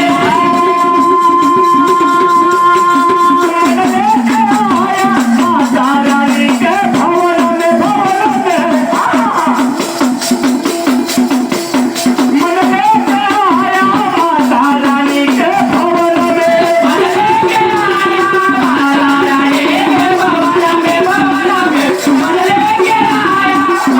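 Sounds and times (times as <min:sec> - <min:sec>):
person singing a melody: 0:00.0 - 0:10.0, 0:12.2 - 0:23.9
rhythmic percussion: 0:00.0 - 0:23.9
shaken rattles: 0:00.0 - 0:23.9.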